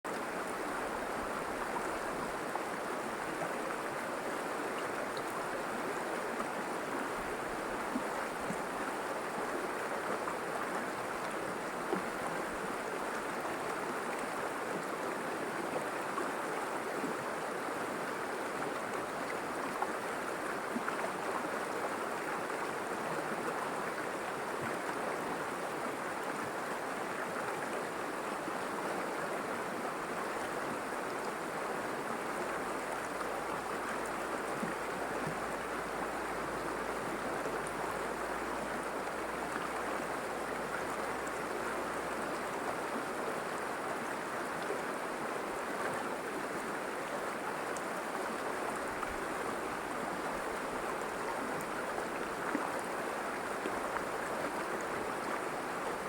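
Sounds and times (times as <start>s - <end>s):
river water rushing over rocks: 0.1s - 56.0s.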